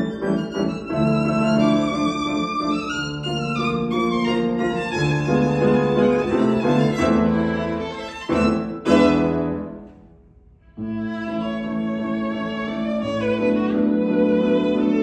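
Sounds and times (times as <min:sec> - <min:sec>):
solo violin: 0:00.0 - 0:09.9, 0:10.6 - 0:15.0
piano accompaniment: 0:00.0 - 0:15.0.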